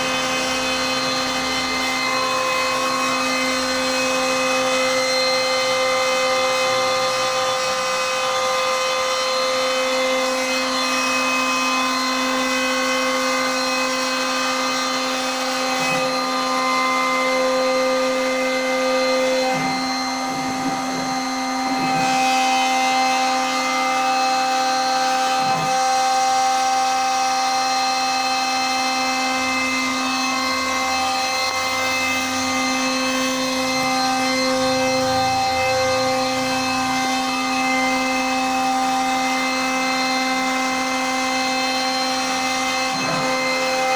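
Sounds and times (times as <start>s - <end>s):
router spindle high whine: 0.0s - 43.9s.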